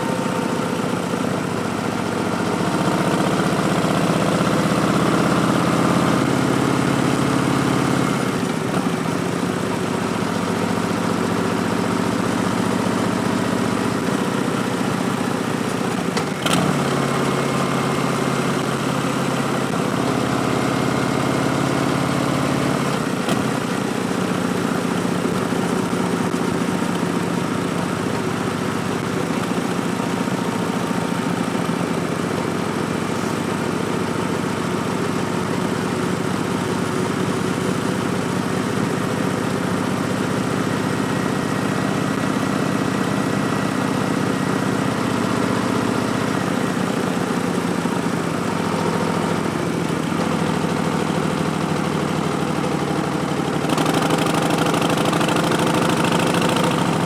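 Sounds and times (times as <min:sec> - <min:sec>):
motorcycle engine while riding: 0:00.0 - 0:57.0.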